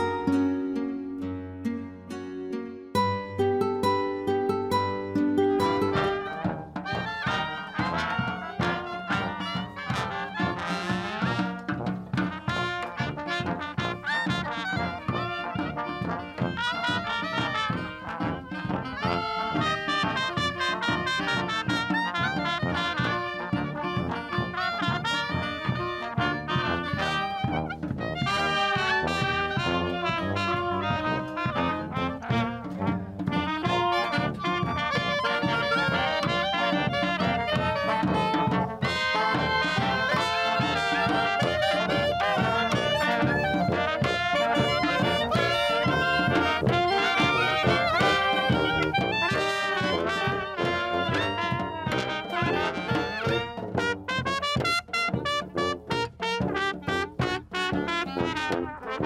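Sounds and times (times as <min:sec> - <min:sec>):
trumpet: 0:00.0 - 0:00.4, 0:03.5 - 0:59.0
clarinet: 0:00.0 - 0:59.0
sousaphone bass line: 0:03.0 - 0:23.4, 0:24.3 - 0:53.7
saxophone: 0:04.4 - 0:59.0.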